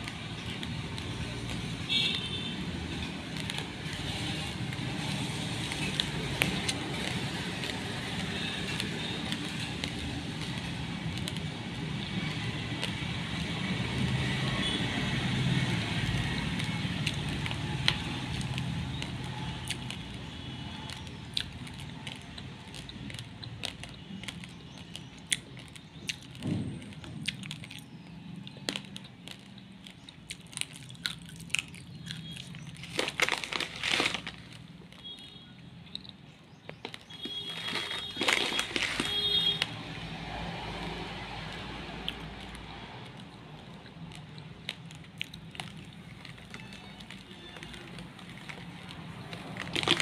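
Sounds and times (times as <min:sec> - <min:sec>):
rice grains pattering: 0:00.0 - 0:27.8, 0:32.4 - 0:35.2, 0:36.8 - 0:39.7, 0:40.6 - 0:50.0
plastic bag crinkling: 0:00.0 - 0:27.9, 0:28.6 - 0:35.3, 0:36.8 - 0:39.8, 0:44.0 - 0:50.0.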